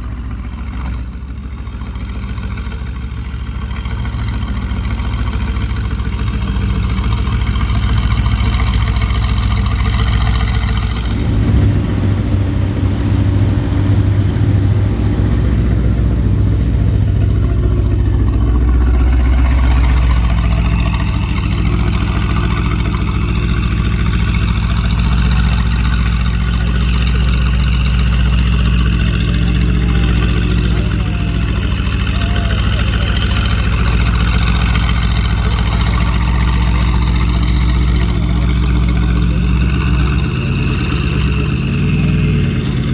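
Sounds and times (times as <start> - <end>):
car engine idling loudly: 0.0 - 42.9.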